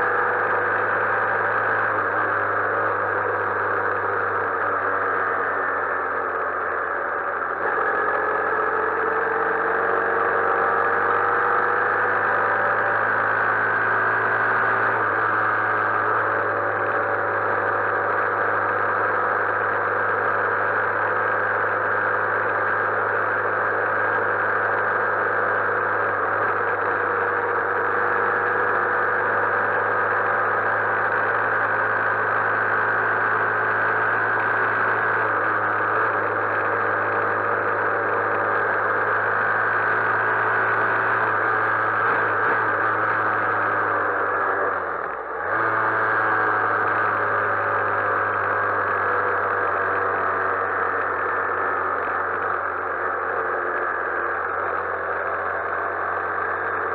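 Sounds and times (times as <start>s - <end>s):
motorcycle engine running: 0.0s - 56.9s
road noise: 0.0s - 56.9s.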